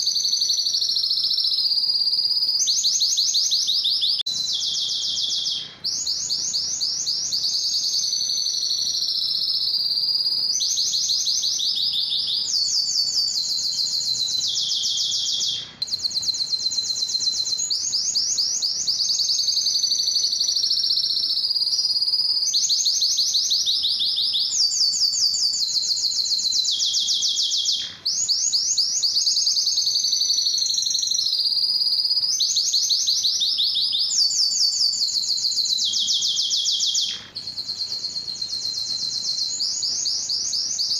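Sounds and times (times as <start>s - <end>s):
canary singing high trills: 0.0s - 40.9s.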